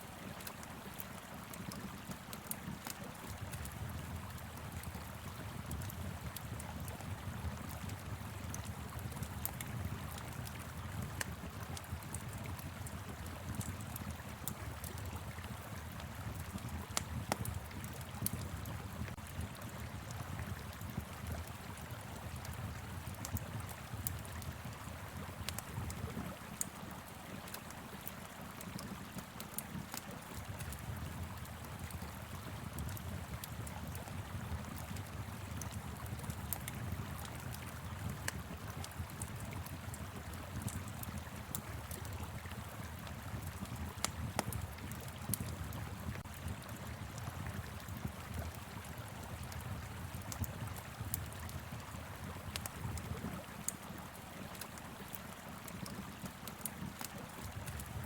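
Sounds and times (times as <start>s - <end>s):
wood fire crackling and popping: 0.2s - 58.0s.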